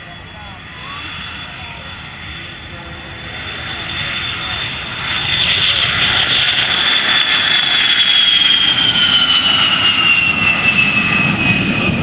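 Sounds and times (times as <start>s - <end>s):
jet engine high whine: 0.0s - 12.0s.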